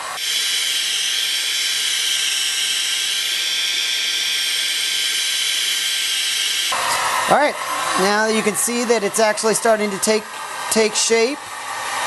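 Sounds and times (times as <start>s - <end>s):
heat gun blowing hot air: 0.0s - 12.0s.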